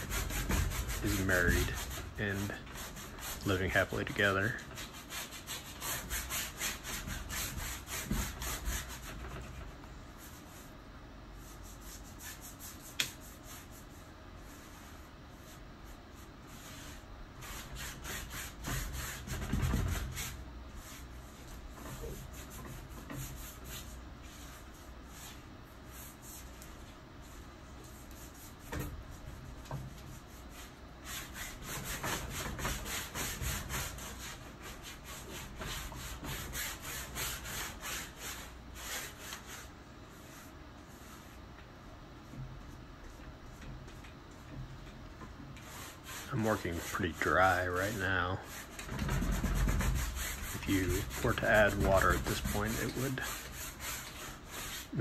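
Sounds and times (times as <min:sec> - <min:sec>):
brush scrubbing paint on canvas: 0:00.0 - 0:41.5, 0:45.5 - 0:55.0.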